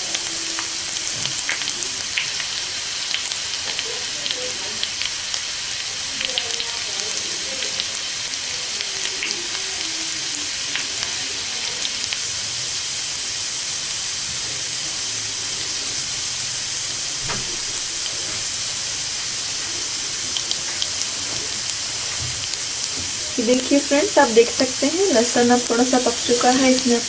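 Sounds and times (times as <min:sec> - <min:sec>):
garlic sizzling in oil: 0:00.0 - 0:27.0.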